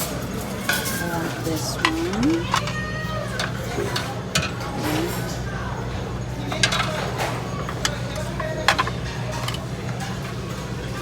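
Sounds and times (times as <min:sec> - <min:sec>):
faint background chatter: 0:00.0 - 0:11.0
utensils and dishes clinking: 0:00.0 - 0:11.0.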